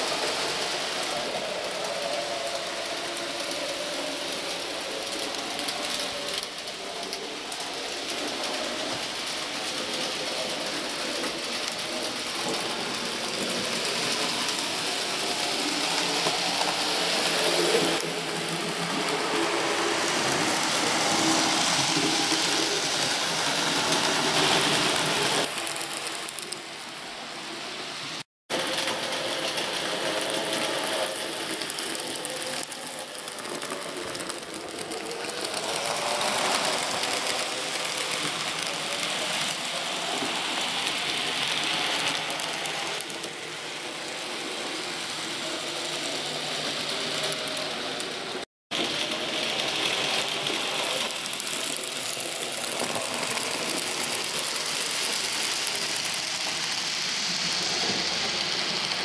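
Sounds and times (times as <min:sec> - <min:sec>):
model train motors whirring: 0:00.0 - 0:27.0, 0:27.8 - 0:59.0
wheels on model track: 0:00.0 - 0:59.0.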